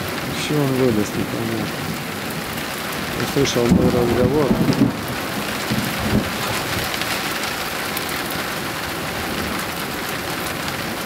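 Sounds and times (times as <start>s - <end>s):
heavy rain on grass: 0.0s - 11.0s.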